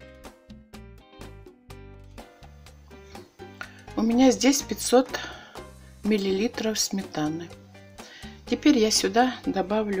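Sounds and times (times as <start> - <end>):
light instrumental music: 0.0 - 10.0.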